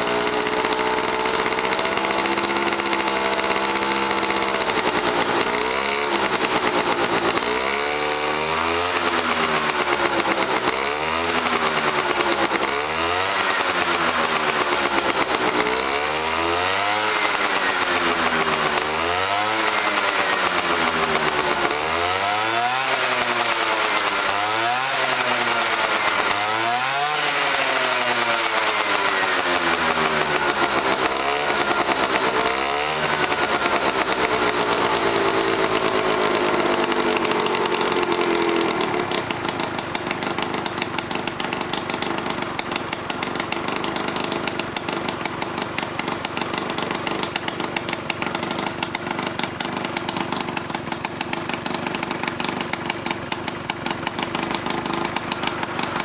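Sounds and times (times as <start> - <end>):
scooter engine revving and idling: 0.0 - 56.0.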